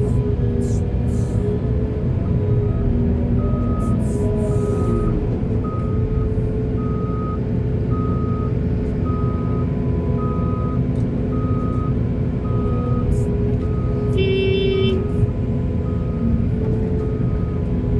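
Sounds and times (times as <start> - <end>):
diesel engine rumble: 0.0 - 17.9
reversing alarm beeping: 2.2 - 17.8.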